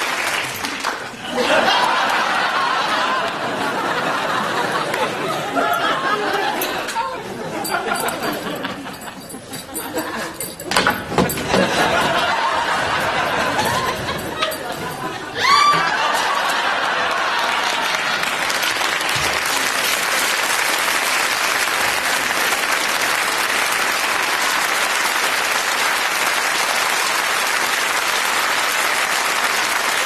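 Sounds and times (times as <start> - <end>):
audience applauding: 0.0 - 10.7, 11.4 - 30.0.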